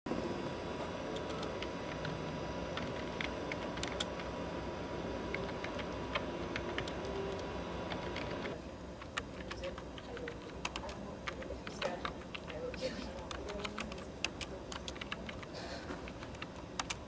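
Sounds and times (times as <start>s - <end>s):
background hum and hiss: 0.1s - 17.0s.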